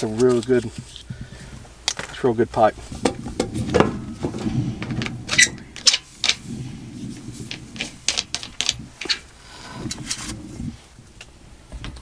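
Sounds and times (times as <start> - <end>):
tubing clicking and rustling: 0.0 - 1.1, 1.8 - 12.0.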